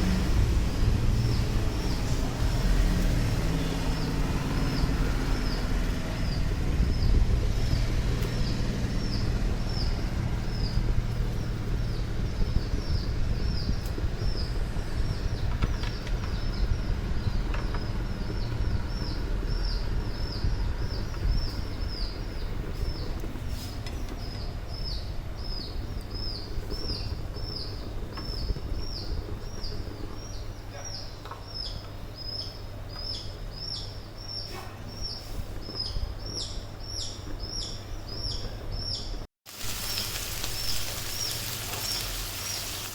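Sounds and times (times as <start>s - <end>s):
steady low hum: 0.0s - 39.3s
small bird chirping: 1.2s - 42.9s.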